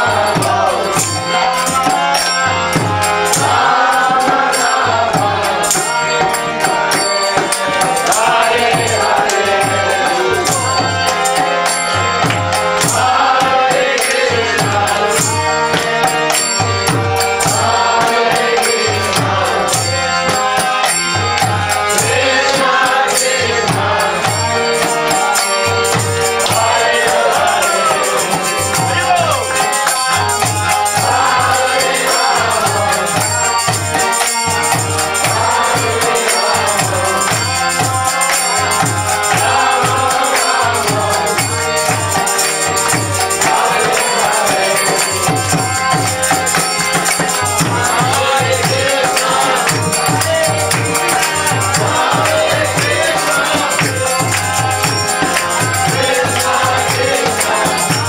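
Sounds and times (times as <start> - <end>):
group chanting together: 0.0 - 58.0
jingling hand percussion: 0.0 - 58.0.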